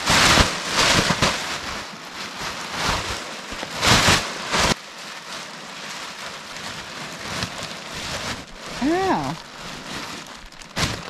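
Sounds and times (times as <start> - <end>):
fabric crinkling: 0.0 - 11.0
nylon fabric swishing through air: 0.0 - 11.0.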